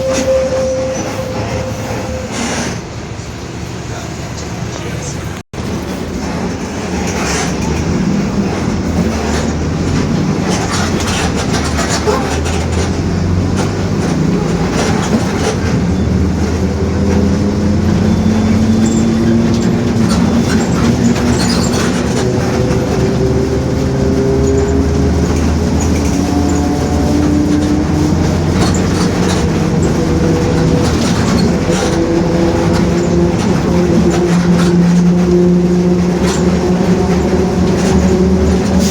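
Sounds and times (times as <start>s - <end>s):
bus diesel engine under load: 0.0s - 38.9s
rattles and clicks: 5.6s - 38.9s.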